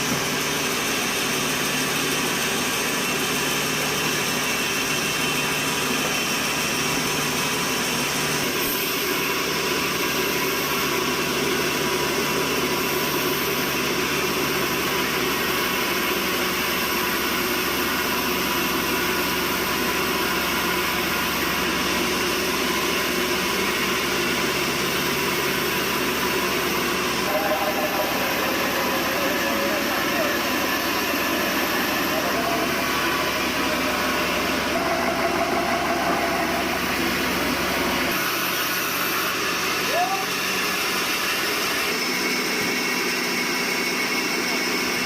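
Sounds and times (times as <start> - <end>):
sawmill machinery running: 0.0 - 45.0.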